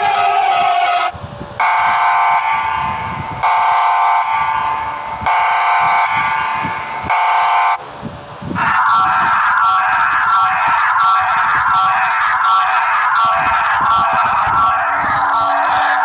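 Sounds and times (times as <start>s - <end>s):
buzzy electronic alarm tone: 0.0s - 7.8s, 8.6s - 16.0s.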